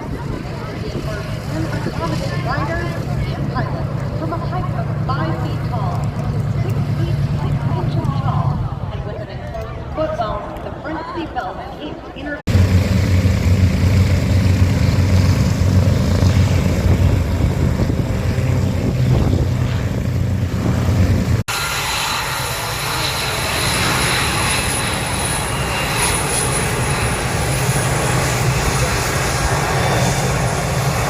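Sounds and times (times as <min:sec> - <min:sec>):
piston aircraft engines running: 0:00.0 - 0:31.0.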